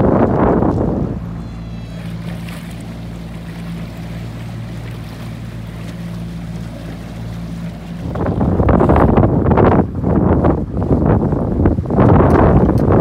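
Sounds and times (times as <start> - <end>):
motorboat engine idling: 0.0 - 13.0
wind buffeting microphone: 0.0 - 13.0.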